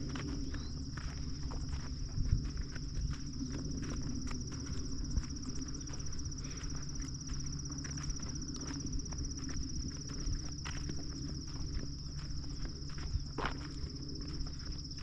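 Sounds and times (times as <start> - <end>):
footsteps on a path: 0.0 - 15.0
insect trill: 0.0 - 15.0
walking and handling rumble: 0.0 - 15.0.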